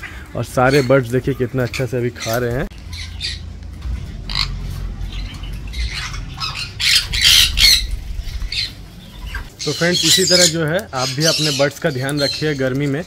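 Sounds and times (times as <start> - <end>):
parrots squawking: 0.6 - 13.0.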